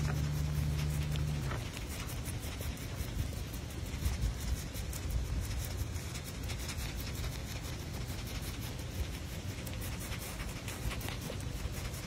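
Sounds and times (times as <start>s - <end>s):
aardvark snout snuffling: 0.0s - 12.0s
fine licking clicks: 0.0s - 12.0s.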